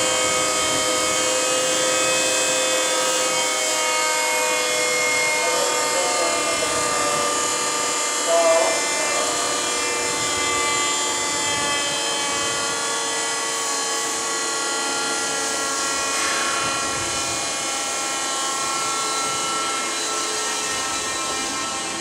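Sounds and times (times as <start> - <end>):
train air compressor whining: 0.0 - 22.0.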